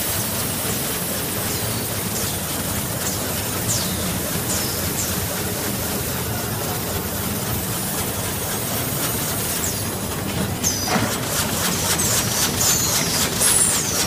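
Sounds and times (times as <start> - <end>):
machine clatter and hiss: 0.0 - 14.0.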